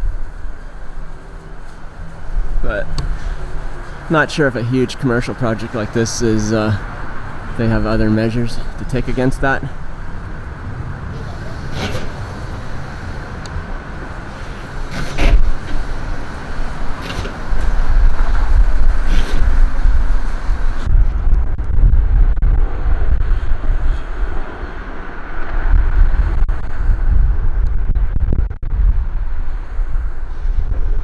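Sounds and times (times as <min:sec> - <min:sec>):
street traffic: 0:00.0 - 0:27.7
wind buffeting microphone: 0:00.0 - 0:31.0.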